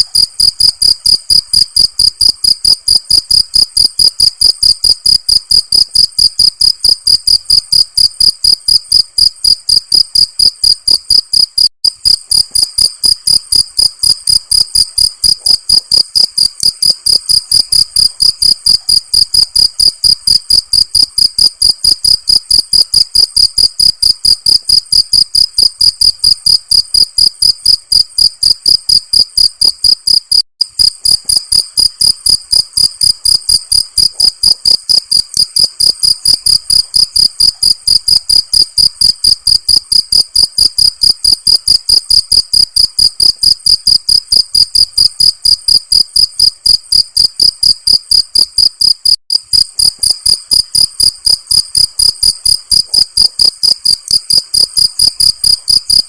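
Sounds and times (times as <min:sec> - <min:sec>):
crickets chirping: 0:00.1 - 0:56.0.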